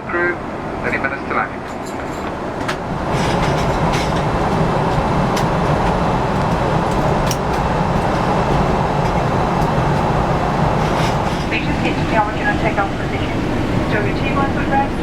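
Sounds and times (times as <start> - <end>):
airplane cabin rushing noise: 0.8 - 15.0.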